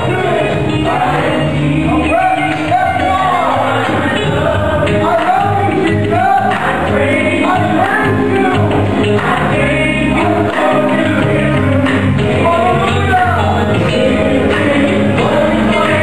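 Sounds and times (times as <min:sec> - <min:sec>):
group singing gospel song: 0:00.0 - 0:16.0
live band with keyboard and guitar: 0:00.0 - 0:16.0.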